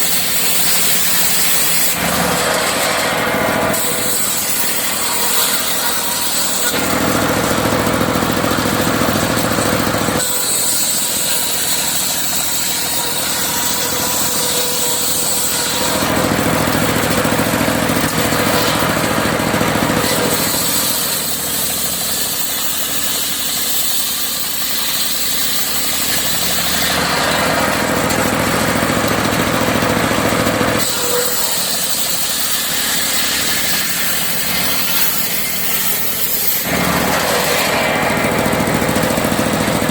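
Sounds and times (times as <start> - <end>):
circular saw cutting logs: 0.0 - 39.9
engine running steadily: 0.0 - 39.9.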